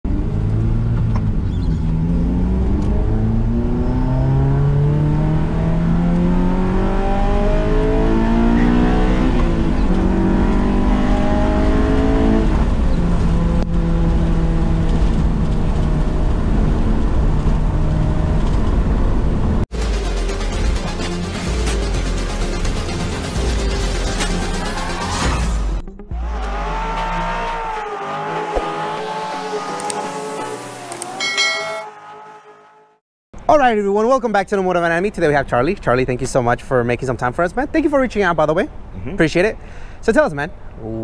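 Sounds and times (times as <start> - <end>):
car engine accelerating: 0.1 - 33.0.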